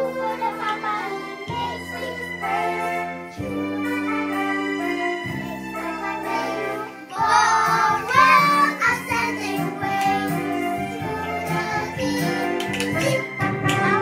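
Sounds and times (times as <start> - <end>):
child singing: 0.0 - 3.9, 5.4 - 13.2.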